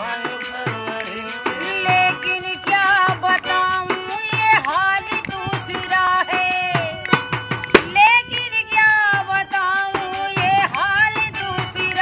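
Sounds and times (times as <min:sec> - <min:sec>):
frame drum beats: 0:00.0 - 0:12.0
harmonium chords: 0:00.0 - 0:12.0
woman singing: 0:01.4 - 0:12.0.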